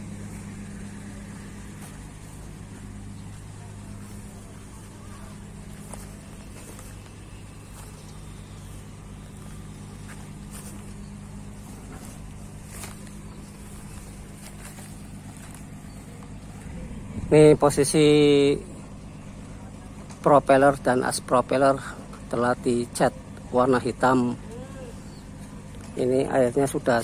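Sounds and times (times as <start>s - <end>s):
winch engine humming: 0.0s - 27.0s.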